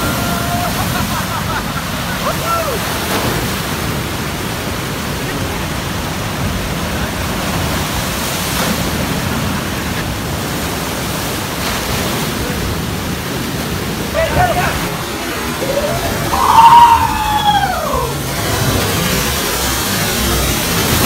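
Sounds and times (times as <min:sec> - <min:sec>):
ocean surf rushing: 0:00.0 - 0:21.0.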